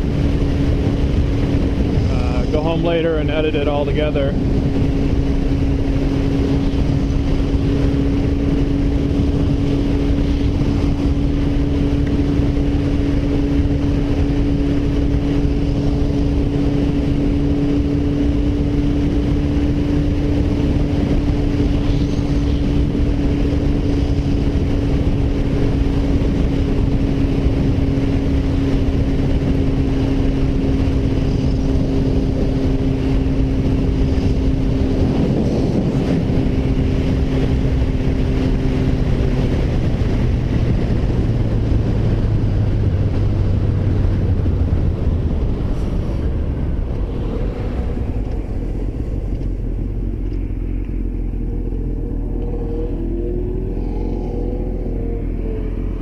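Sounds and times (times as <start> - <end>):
motorcycle engine cruising: 0.0 - 56.0
wind noise on microphone: 0.0 - 56.0.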